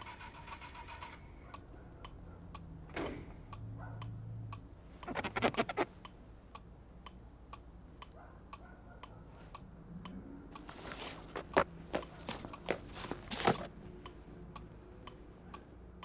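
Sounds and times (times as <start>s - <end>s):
clock ticking: 0.0s - 16.0s.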